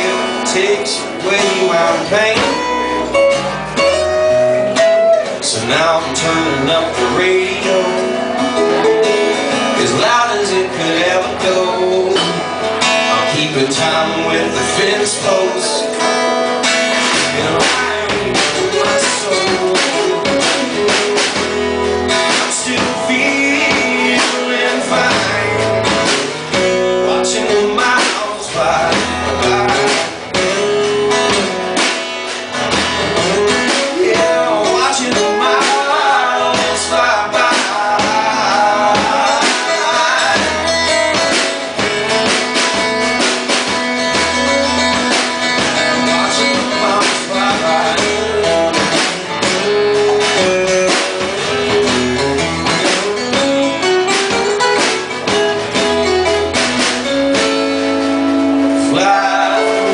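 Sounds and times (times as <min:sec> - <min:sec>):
steady drum beat: 0:00.0 - 0:15.7, 0:16.5 - 0:59.9
rock guitar: 0:00.0 - 0:59.9.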